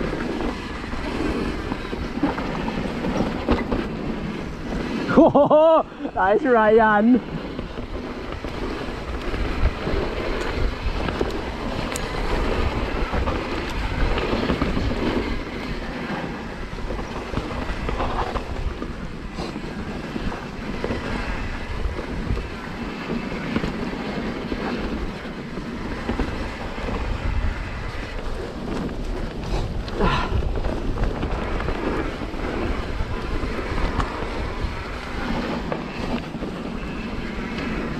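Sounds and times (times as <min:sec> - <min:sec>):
bike rattling over bumps: 0:00.0 - 0:37.9
tyres rolling on dirt: 0:00.0 - 0:37.9
wind buffeting microphone: 0:00.0 - 0:37.9.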